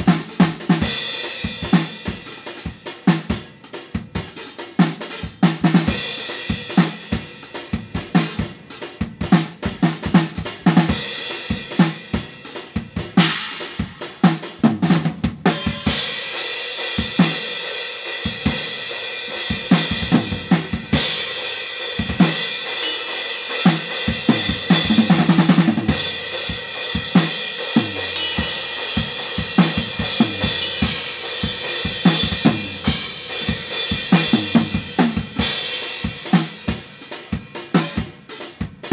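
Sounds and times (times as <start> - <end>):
rock drum kit playing: 0.0 - 38.9.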